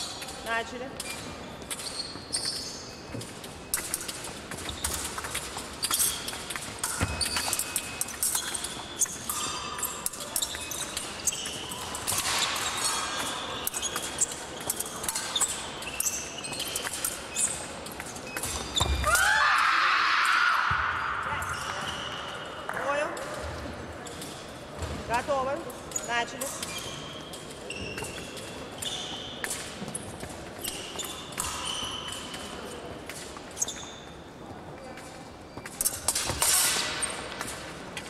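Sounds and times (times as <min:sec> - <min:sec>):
shoe squeaks: 0:00.0 - 0:19.1, 0:21.0 - 0:22.7, 0:25.2 - 0:32.8, 0:33.5 - 0:36.0.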